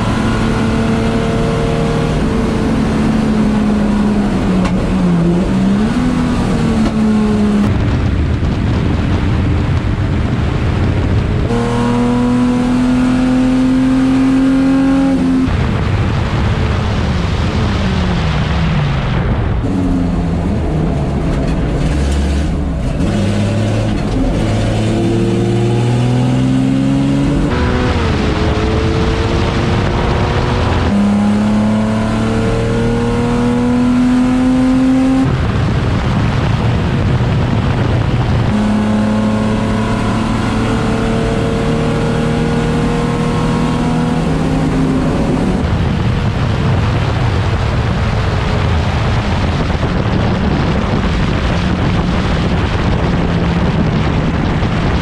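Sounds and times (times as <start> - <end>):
racing car engine at full throttle: 0.0 - 55.0.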